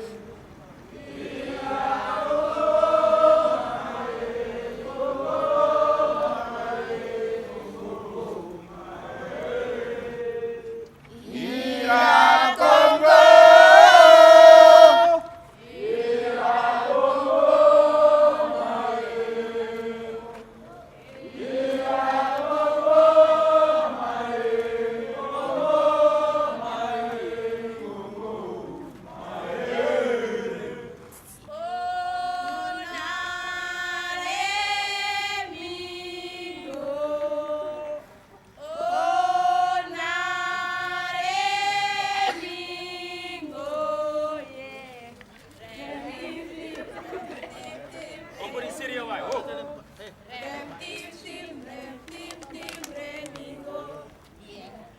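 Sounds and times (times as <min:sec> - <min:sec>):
voices singing in chorus: 0:00.0 - 0:54.9.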